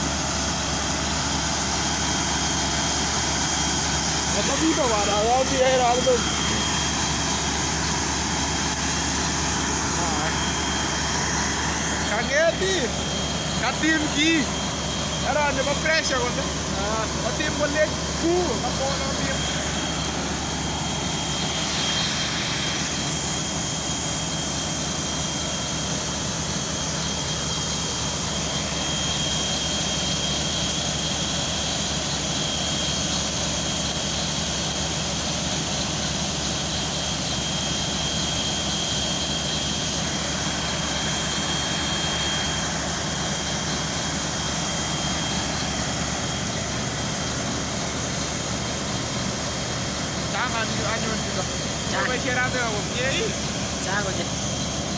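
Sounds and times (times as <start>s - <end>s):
engine and compressor rumble: 0.0s - 54.9s
steady high whine: 0.0s - 54.9s.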